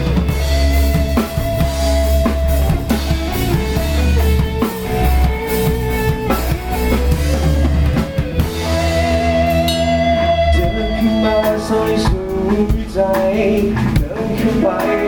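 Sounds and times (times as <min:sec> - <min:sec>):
drum-kit beat: 0:00.0 - 0:15.0
instrumental band music: 0:00.0 - 0:15.0.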